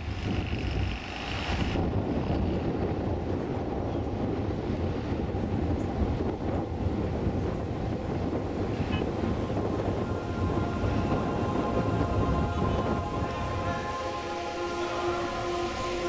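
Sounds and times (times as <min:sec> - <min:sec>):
high whine: 0:01.3 - 0:16.0.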